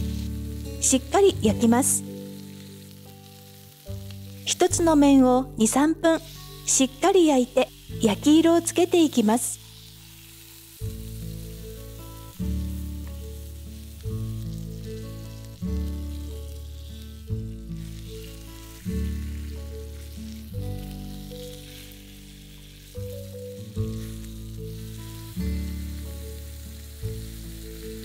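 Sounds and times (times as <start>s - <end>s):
meat sizzling in a frying pan: 0.0s - 28.0s
soft chords background music: 0.0s - 28.0s.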